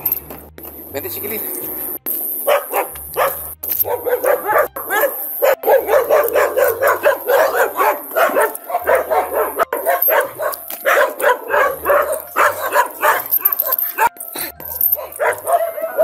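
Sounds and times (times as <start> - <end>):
dog barking rapidly: 2.4 - 16.0.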